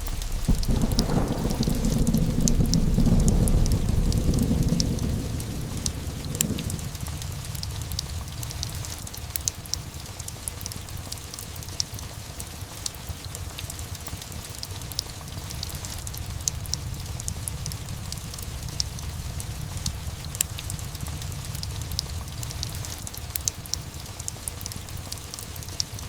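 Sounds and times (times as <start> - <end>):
burning wood crackling: 0.0 - 26.0
steady rain: 0.0 - 26.0.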